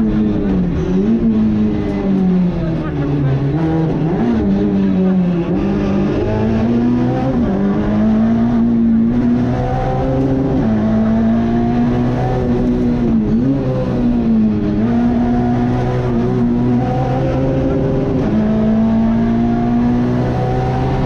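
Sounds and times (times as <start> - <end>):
car engine revving hard: 0.0 - 21.0.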